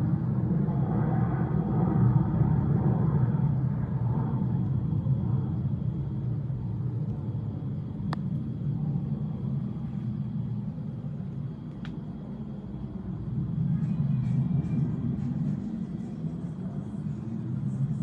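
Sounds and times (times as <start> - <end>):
distant jet aircraft rumble: 0.0 - 18.0.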